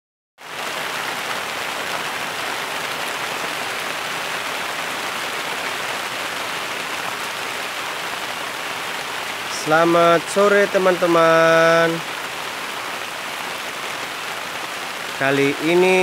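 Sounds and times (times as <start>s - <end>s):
rain falling on leaves: 0.4s - 16.0s.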